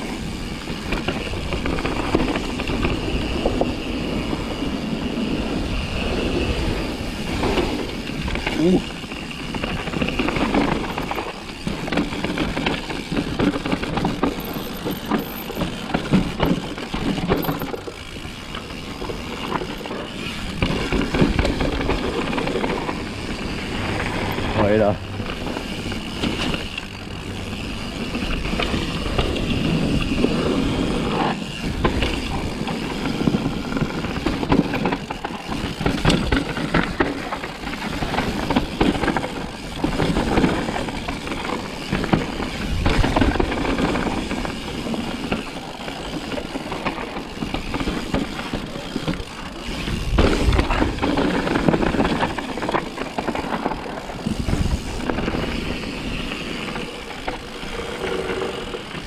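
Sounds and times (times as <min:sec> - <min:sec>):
bike rattling and knocking: 0:00.0 - 0:59.0.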